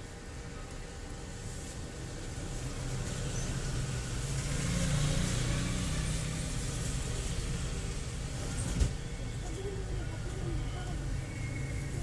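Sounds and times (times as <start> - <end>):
passing vehicle engine rumble: 2.0 - 12.0.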